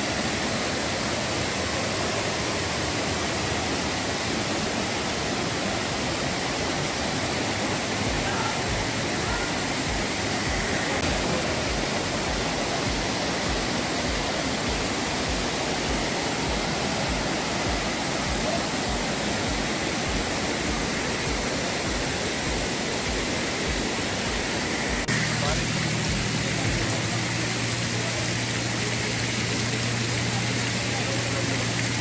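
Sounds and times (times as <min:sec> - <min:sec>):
stream rushing over boulders: 0:00.0 - 0:32.0.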